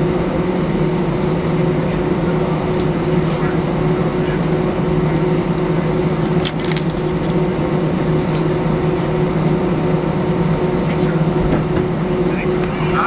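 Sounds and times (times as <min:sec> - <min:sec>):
jet engine cabin hum: 0:00.0 - 0:13.0.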